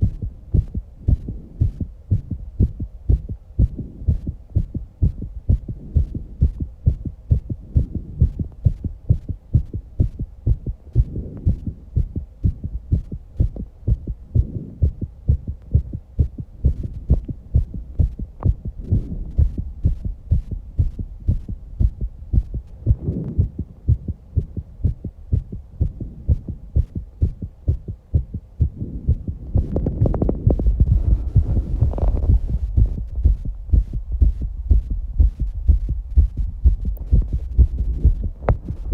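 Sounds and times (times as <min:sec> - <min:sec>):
fast heartbeat thuds: 0:00.0 - 0:38.9.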